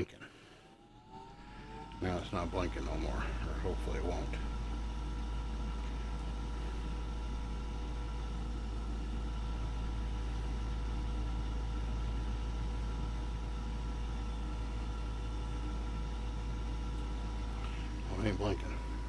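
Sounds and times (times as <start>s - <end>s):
faint whining tones: 0.0s - 19.0s
gas furnace humming: 0.0s - 19.0s.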